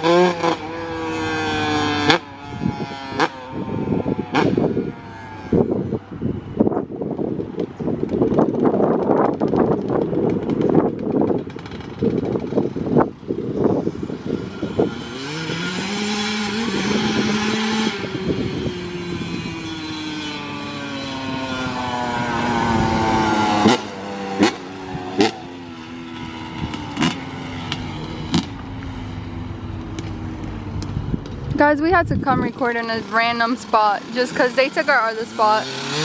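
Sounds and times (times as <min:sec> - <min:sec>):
dirt bike engine revving: 0:00.0 - 0:06.8, 0:08.0 - 0:36.0.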